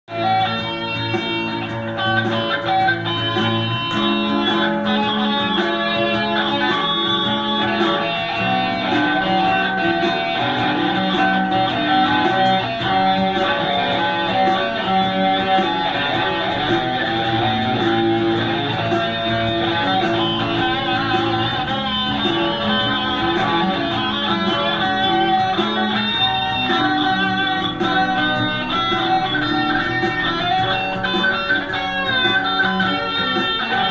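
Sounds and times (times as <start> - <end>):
guitar music: 0.1 - 33.9.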